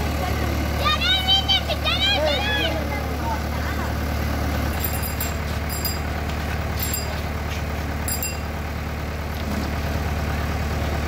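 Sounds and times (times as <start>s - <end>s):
backhoe loader diesel engine running: 0.0s - 11.0s.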